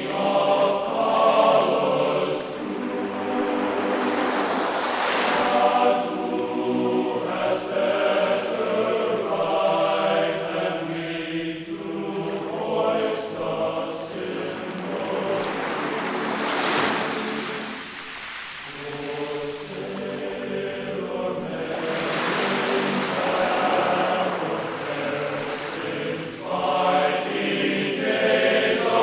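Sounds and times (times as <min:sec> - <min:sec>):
choir singing sustained notes: 0:00.0 - 0:29.0
waves washing on shore: 0:00.0 - 0:29.0.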